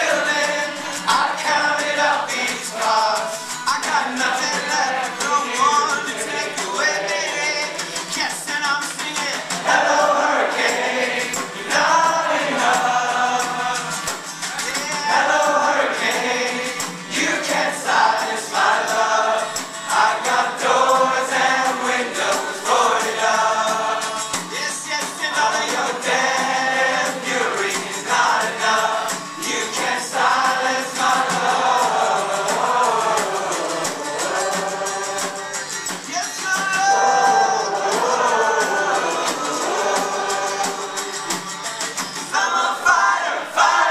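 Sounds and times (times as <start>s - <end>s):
men singing in harmony: 0.0s - 41.6s, 42.2s - 43.9s
strummed acoustic guitar: 0.0s - 43.9s.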